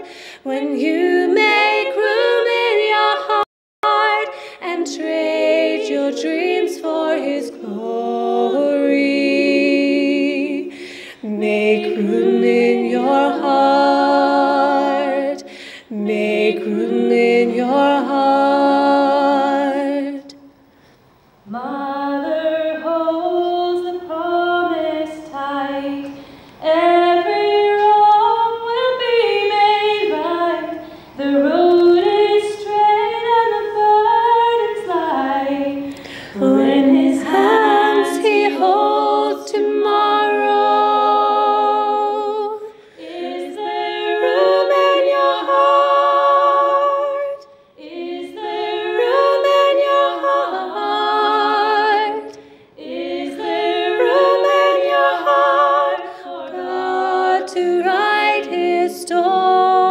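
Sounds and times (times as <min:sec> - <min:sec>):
women singing in harmony: 0:00.0 - 0:20.5, 0:21.4 - 0:59.9.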